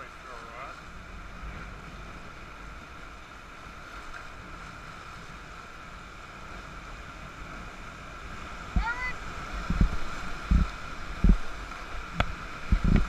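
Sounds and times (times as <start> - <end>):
whitewater rushing: 2.4 - 13.0.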